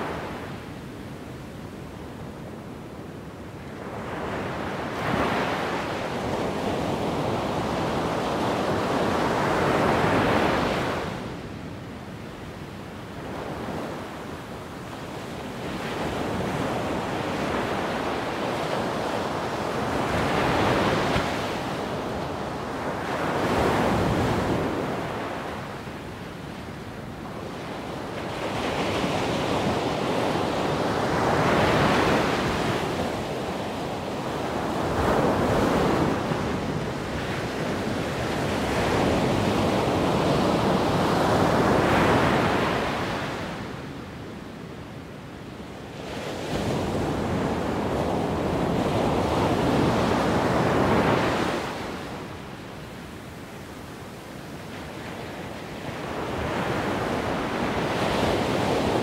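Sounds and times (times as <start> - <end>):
wind blowing in gusts: 0.0 - 59.0.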